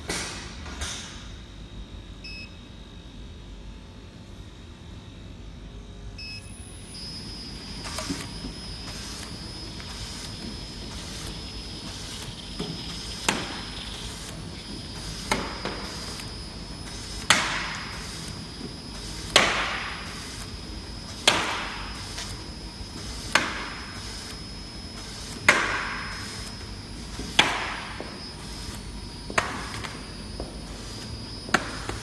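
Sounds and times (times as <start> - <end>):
high machine whine: 0.0 - 32.0.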